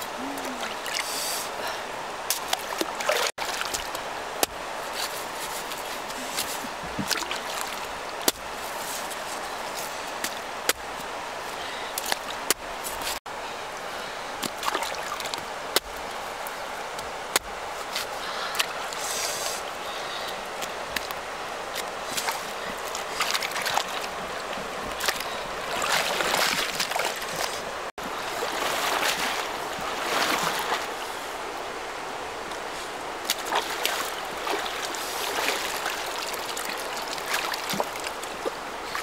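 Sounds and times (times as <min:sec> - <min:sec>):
water trickling and sloshing: 0:00.0 - 0:39.0.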